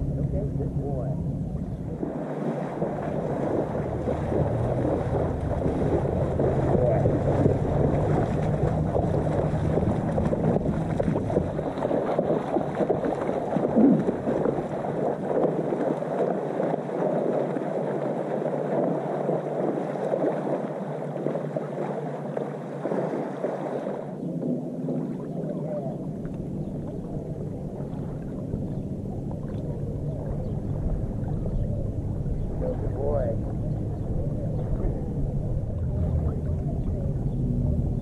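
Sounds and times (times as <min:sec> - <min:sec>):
water splashing and sloshing: 0:00.0 - 0:38.0.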